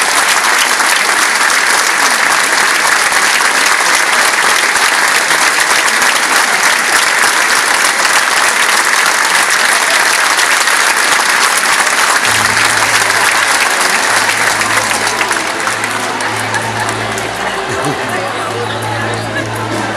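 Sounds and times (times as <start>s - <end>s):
audience applauding: 0.0s - 19.9s.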